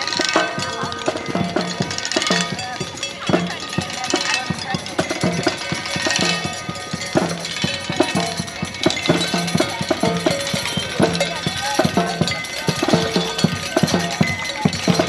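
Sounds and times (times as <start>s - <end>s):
drums and percussion banging: 0.0s - 15.0s
voices: 0.0s - 15.0s.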